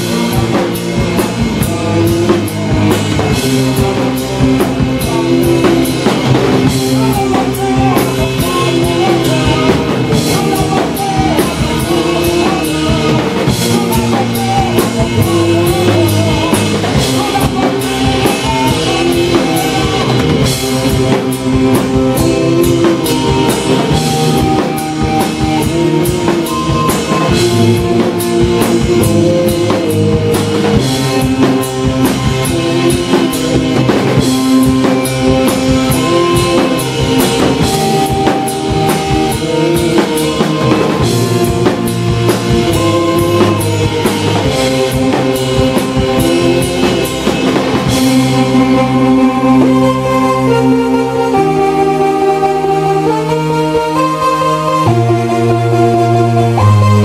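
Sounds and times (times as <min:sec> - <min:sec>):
bass guitar: 0:00.0 - 0:57.0
drum kit: 0:00.0 - 0:57.0
synthesizer: 0:00.0 - 0:57.0.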